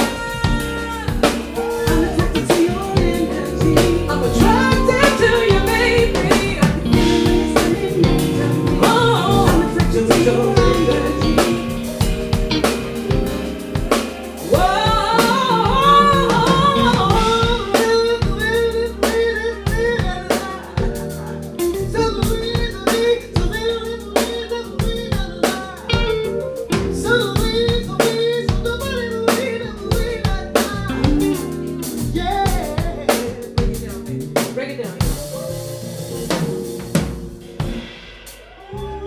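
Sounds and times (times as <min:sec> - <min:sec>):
woman singing: 0:00.0 - 0:26.2, 0:26.9 - 0:34.0
drum kit beat: 0:00.0 - 0:39.0
jazz-funk band playing: 0:00.0 - 0:39.0.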